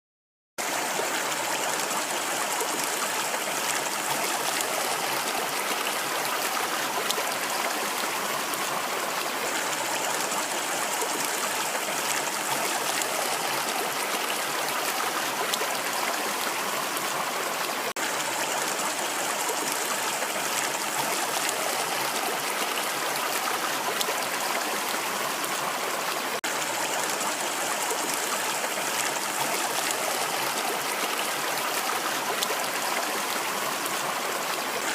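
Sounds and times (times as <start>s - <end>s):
rushing water: 0.6s - 34.9s.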